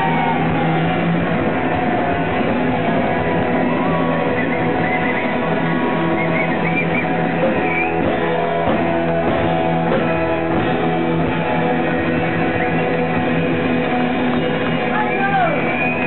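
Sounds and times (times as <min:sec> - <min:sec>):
drums and cymbal crashes: 0:00.0 - 0:16.0
rock band playing loud: 0:00.0 - 0:16.0.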